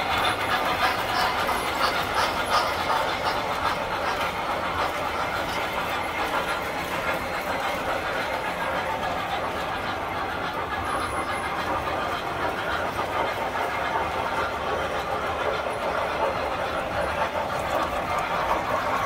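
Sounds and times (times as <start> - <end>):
model trains running on metal track: 0.0 - 19.0.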